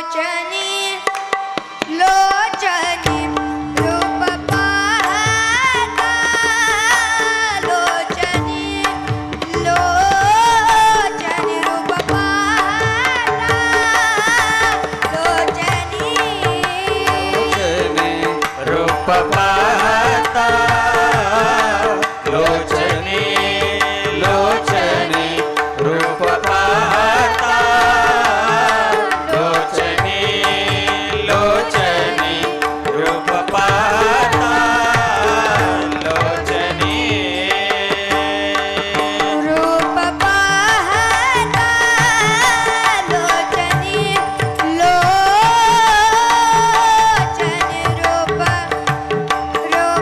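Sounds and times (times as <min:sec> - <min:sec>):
tabla playing a steady rhythm: 0:00.0 - 0:50.0
wordless vocal melody: 0:06.9 - 0:48.3.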